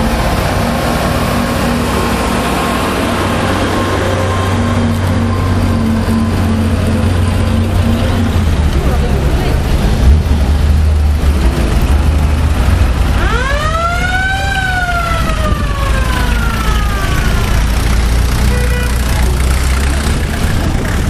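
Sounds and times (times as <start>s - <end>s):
jeep engines running: 0.0s - 21.0s.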